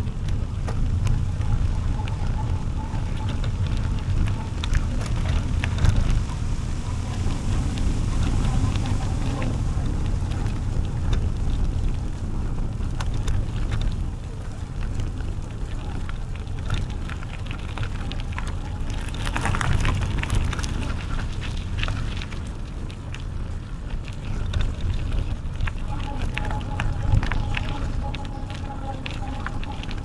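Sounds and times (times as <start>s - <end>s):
bicycle tyres crackling: 0.0s - 30.0s
wind rumble on microphone: 0.0s - 30.0s.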